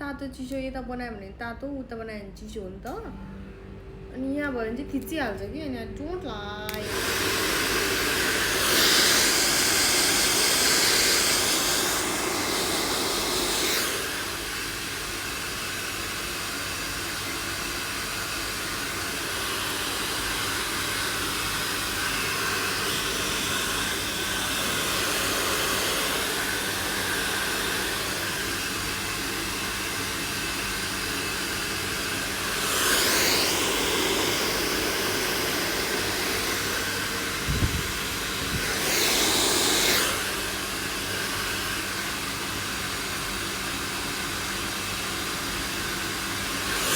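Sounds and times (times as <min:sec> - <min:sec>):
hair dryer running: 0:06.3 - 0:46.9.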